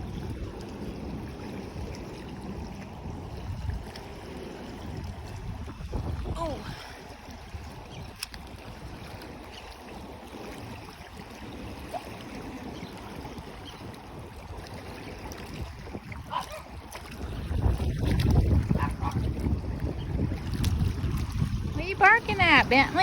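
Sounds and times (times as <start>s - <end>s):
small waves washing on sand: 0.0s - 23.0s
wind on microphone: 0.0s - 23.0s.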